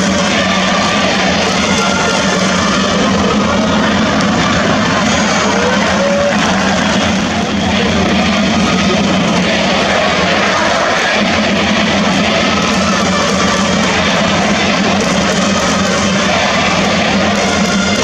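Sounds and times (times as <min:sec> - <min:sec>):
stadium crowd cheering: 0:00.0 - 0:18.0.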